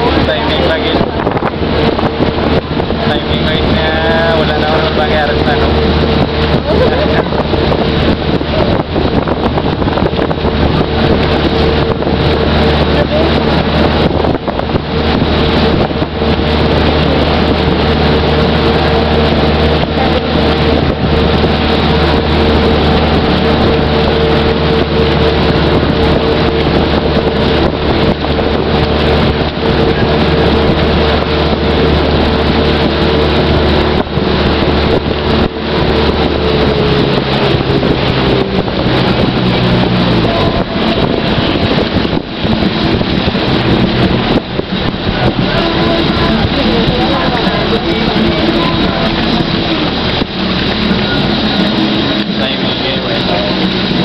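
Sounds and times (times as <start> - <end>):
boat engine droning: 0.0 - 54.0
water rushing: 0.0 - 54.0
wind buffeting microphone: 0.0 - 54.0.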